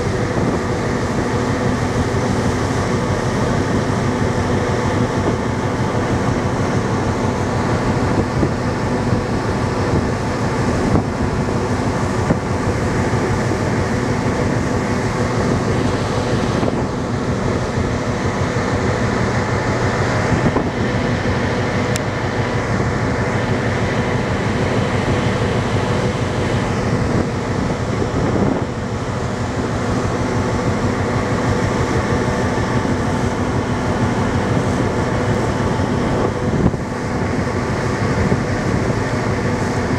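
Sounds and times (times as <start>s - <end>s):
ferry engine drone: 0.0s - 39.9s.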